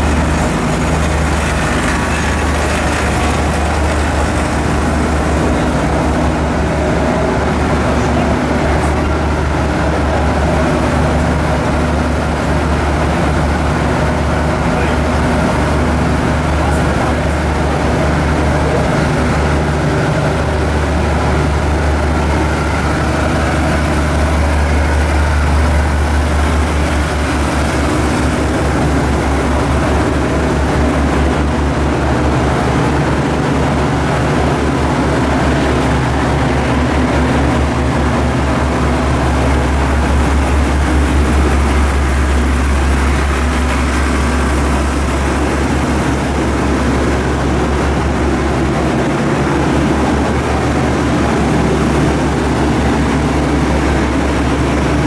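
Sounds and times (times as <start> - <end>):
diesel train engine rumbling: 0.0 - 55.0.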